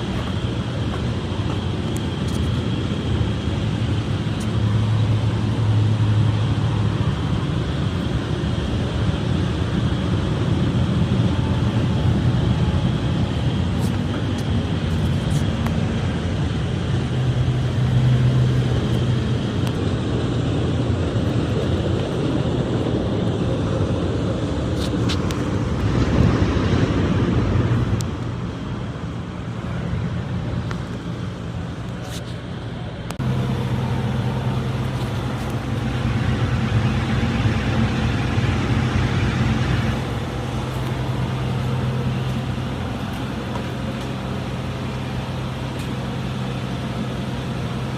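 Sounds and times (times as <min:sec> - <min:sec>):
large engine running: 0:00.0 - 0:47.9.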